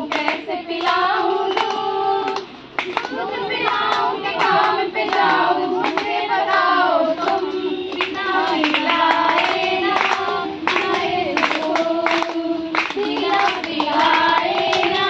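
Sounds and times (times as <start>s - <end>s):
group clapping in time: 0.0s - 15.0s
women singing: 0.0s - 15.0s.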